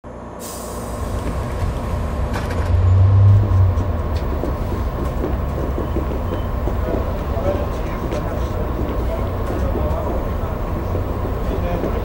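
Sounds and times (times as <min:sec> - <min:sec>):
bus rumble from inside: 0:00.1 - 0:12.0.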